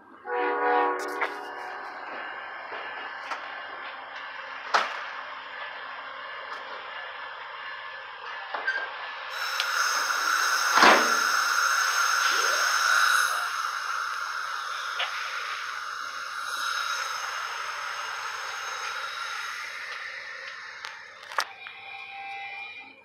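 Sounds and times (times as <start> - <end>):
train air hissing: 0.3 - 8.2, 8.9 - 22.4.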